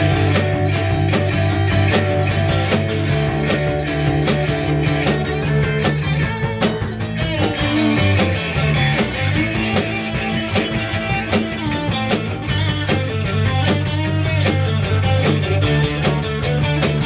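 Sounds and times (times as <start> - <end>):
bending guitar lines: 0.0 - 17.0
rock band playing: 0.0 - 17.0.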